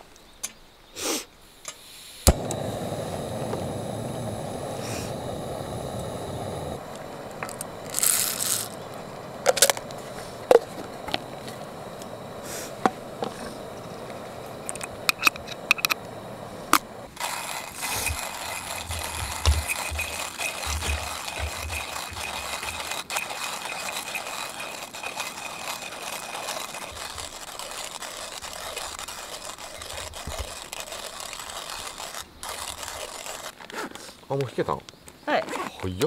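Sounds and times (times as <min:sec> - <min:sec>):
gas burner hissing: 0:01.0 - 0:33.5
coffee grinder burrs scraping: 0:02.3 - 0:33.8
coffee beans rattling into grinder: 0:04.2 - 0:33.7.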